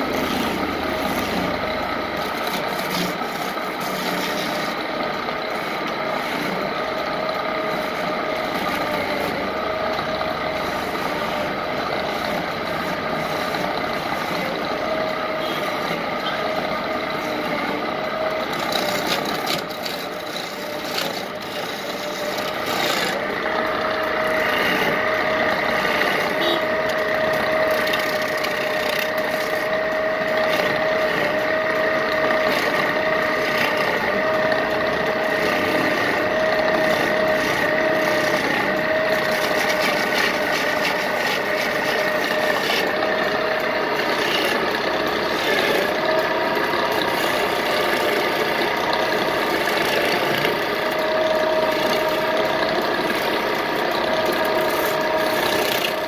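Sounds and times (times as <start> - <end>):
chisel scraping spinning wood: 0.0 - 56.0
wood lathe whine: 0.0 - 56.0.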